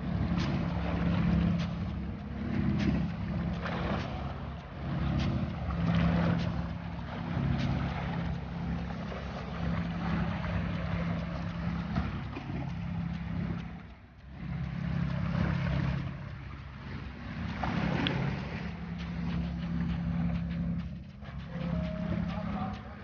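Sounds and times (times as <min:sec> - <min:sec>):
boat engine droning: 0:00.0 - 0:23.0
water noise: 0:00.0 - 0:23.0
wind: 0:00.0 - 0:23.0.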